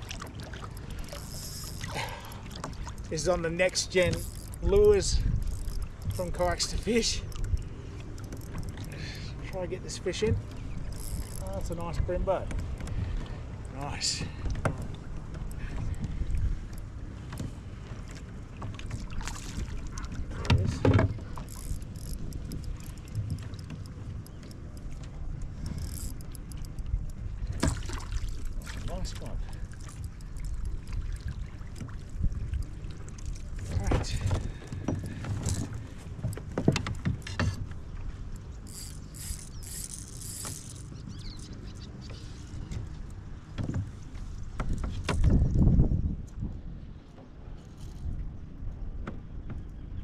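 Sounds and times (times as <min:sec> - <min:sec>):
fishing gear clicks and knocks: 0:00.2 - 0:09.1, 0:10.1 - 0:31.0, 0:31.7 - 0:45.7, 0:47.1 - 0:48.3
wind rumble on microphone: 0:02.8 - 0:50.0.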